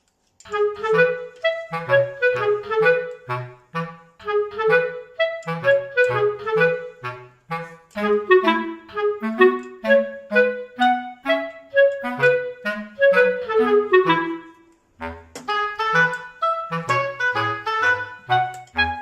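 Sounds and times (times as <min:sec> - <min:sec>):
woodwind melody over bass line: 0:00.5 - 0:19.0.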